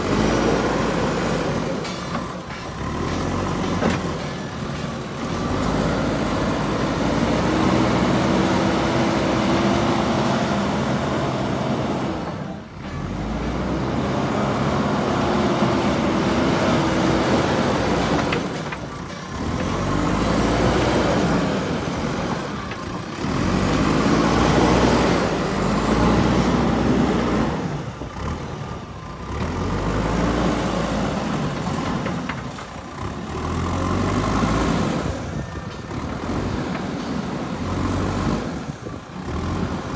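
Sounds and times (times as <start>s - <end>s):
diesel engine revving hard: 0.0s - 4.2s, 5.2s - 18.6s, 19.3s - 32.1s, 32.9s - 39.9s.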